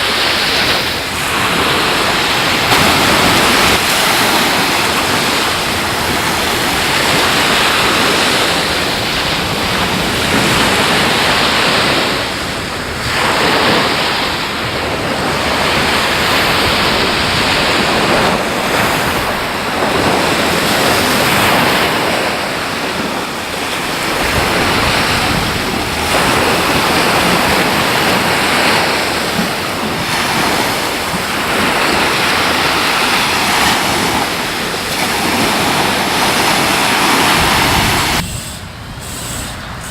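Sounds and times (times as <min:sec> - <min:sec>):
ocean surf breaking: 0:00.0 - 0:39.9
wind on microphone: 0:00.0 - 0:39.9.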